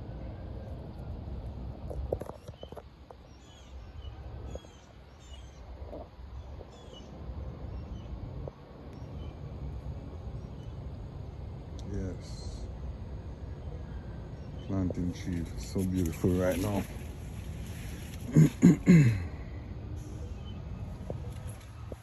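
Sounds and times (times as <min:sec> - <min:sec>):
low steady rumble: 0:00.0 - 0:22.0
small birds chirping: 0:01.8 - 0:22.0.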